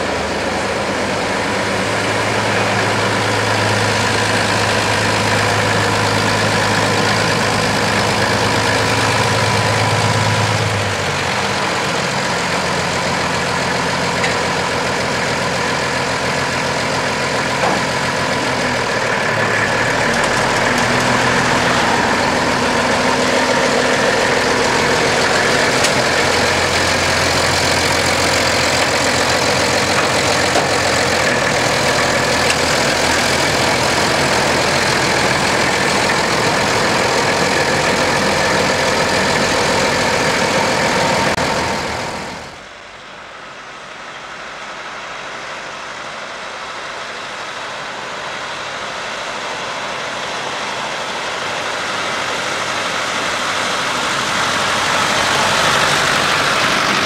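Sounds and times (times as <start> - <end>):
other tractor engines running: 0.0 - 57.0
tractor engine running slowly: 0.0 - 57.0.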